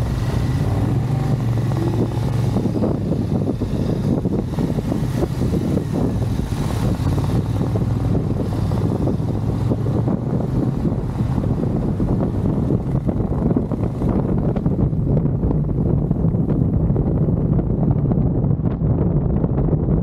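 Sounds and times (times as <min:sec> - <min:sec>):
motorcycle engine running: 0:00.0 - 0:19.9
wind and road noise: 0:00.0 - 0:20.0.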